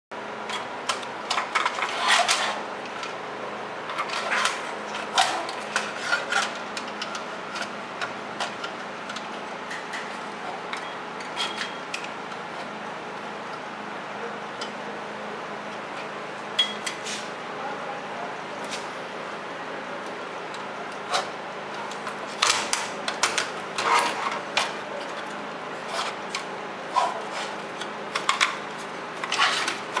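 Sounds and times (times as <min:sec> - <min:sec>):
steady low hum: 0:00.2 - 0:30.0.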